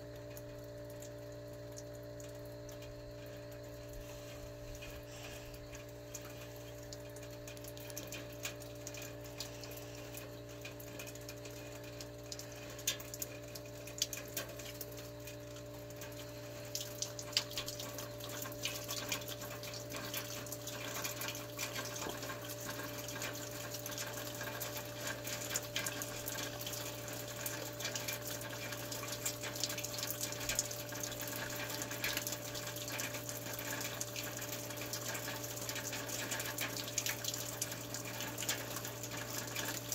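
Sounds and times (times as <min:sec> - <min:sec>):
heat pump machine hum: 0:00.0 - 0:39.9
trickling crackling meltwater hiss: 0:00.0 - 0:39.9.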